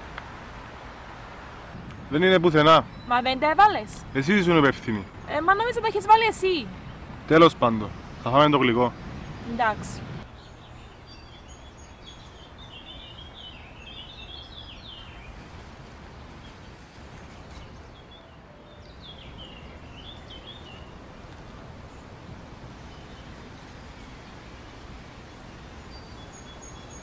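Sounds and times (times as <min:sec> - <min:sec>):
small birds twittering: 0:01.8 - 0:27.0.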